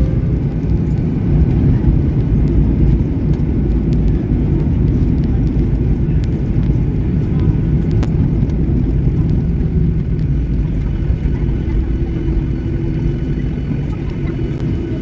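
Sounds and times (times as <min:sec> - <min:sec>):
jet engine and runway rumble: 0:00.0 - 0:15.0.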